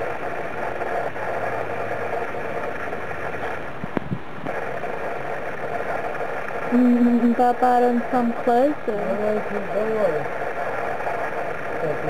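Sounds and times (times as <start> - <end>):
mechanical drone: 0.0 - 12.0.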